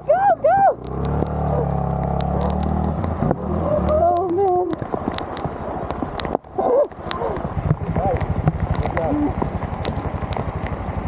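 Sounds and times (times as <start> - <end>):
motorcycle engine running: 0.0 - 6.0, 7.0 - 11.0.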